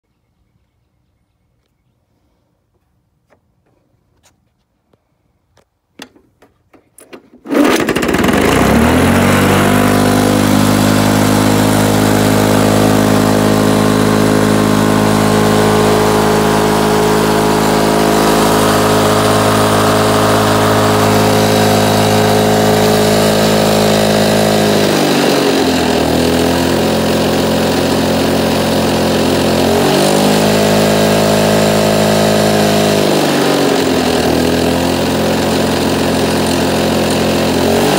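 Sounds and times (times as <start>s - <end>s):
lawn mower engine running: 6.0s - 37.9s.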